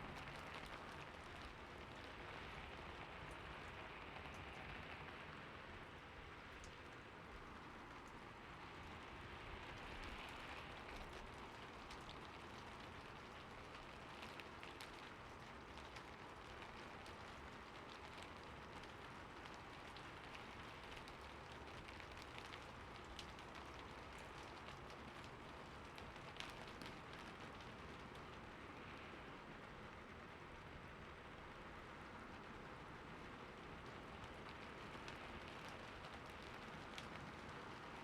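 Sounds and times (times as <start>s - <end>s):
raindrops ticking on a surface: 0.0s - 38.0s.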